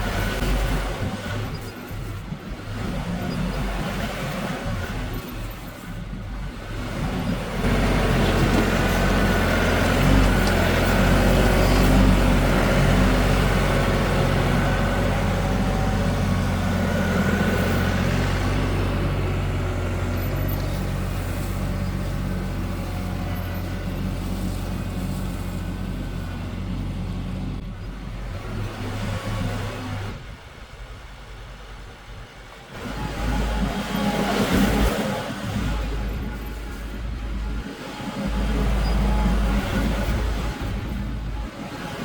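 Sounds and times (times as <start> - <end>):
tractor diesel engine running: 0.0 - 31.5, 32.1 - 42.0.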